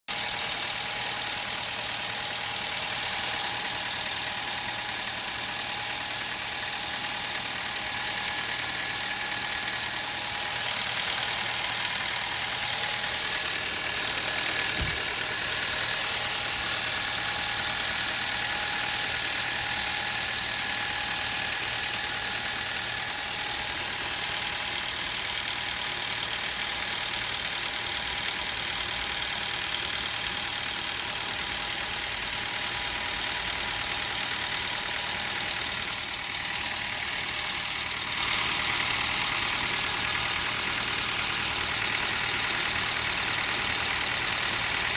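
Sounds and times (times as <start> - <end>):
engine high-pitched whistle: 0.1 - 44.9.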